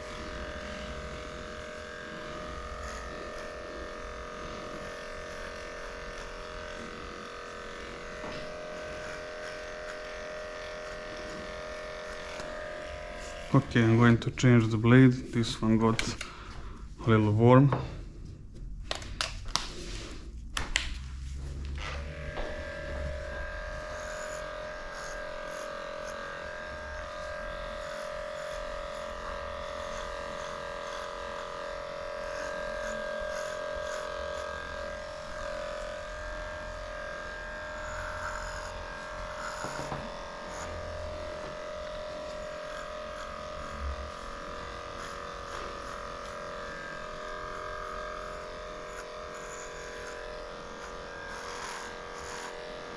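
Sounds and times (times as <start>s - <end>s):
electric clipper humming: 0.0s - 16.5s, 21.4s - 52.9s.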